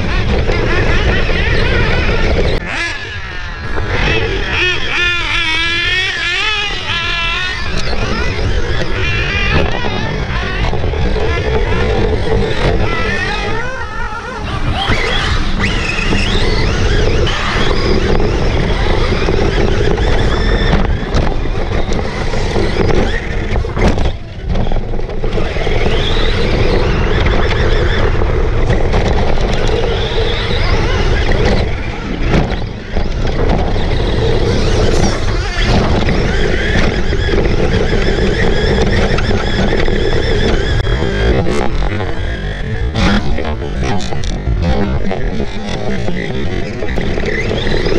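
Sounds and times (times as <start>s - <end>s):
tyres rumbling on dirt: 0.0s - 47.9s
toy truck motor whining: 0.1s - 47.9s.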